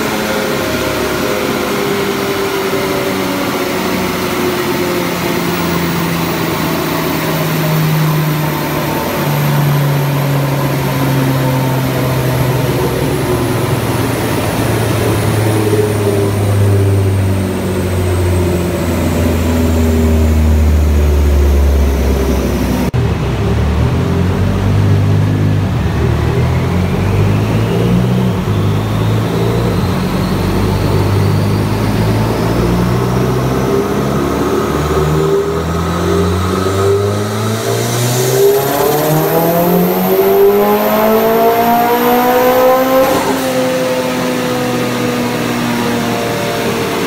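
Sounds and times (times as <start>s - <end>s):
car engine winding down: 0.0s - 47.0s
high whine gliding down: 0.0s - 47.0s.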